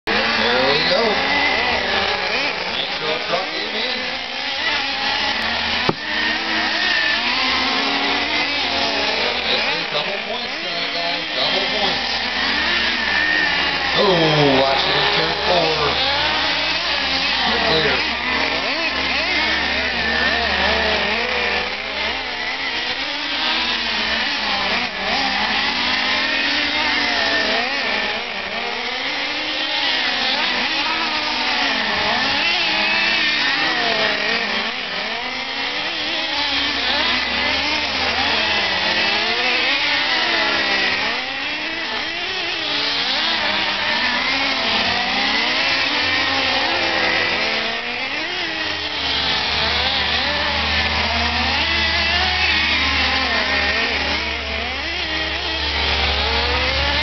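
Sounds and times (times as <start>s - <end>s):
rc truck engines revving: 0.0s - 57.0s.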